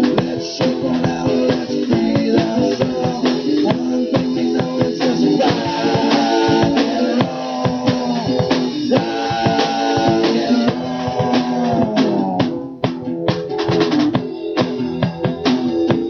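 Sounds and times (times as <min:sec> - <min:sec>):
drum kit steady beat: 0:00.0 - 0:16.0.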